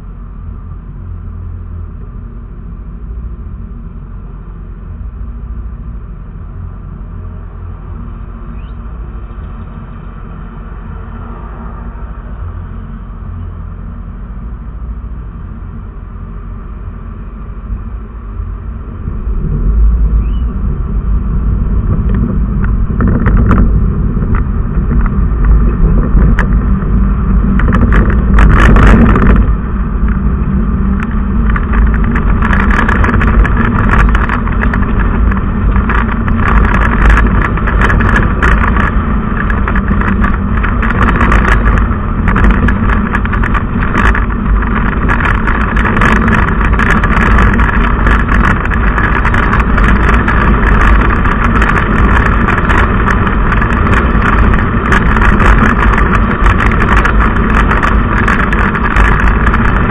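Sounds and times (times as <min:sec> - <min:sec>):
car engine rumbling: 0:00.0 - 0:59.9
road and wind noise: 0:00.0 - 0:59.9.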